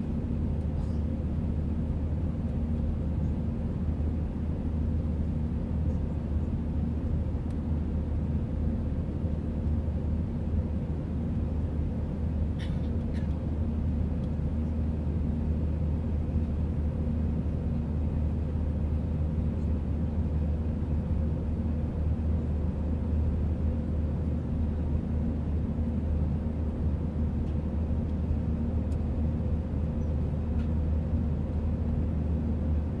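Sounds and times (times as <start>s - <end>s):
airliner engine drone: 0.0s - 33.0s
constant hum: 0.0s - 33.0s.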